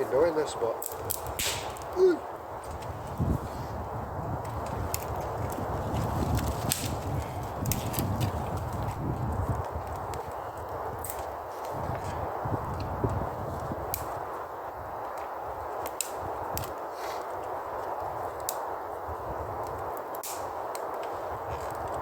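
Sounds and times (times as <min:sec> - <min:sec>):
burning wood popping: 0:00.0 - 0:22.0
campfire hissing and rumbling: 0:00.0 - 0:22.0.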